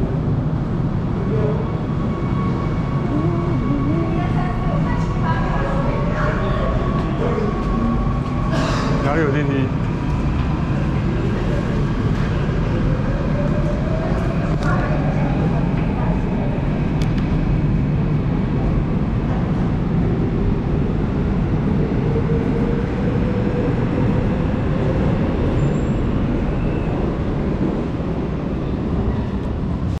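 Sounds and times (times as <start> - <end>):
subway train rumbling past: 0.0 - 30.0.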